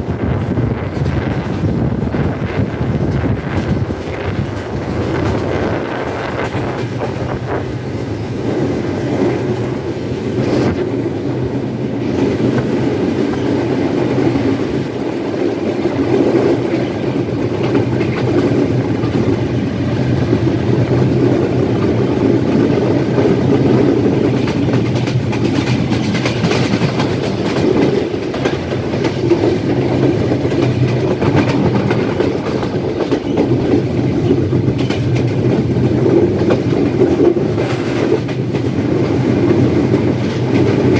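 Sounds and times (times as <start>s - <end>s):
rail joint clicks: 0.0s - 40.9s
train wheels rumbling on rails: 0.0s - 40.9s.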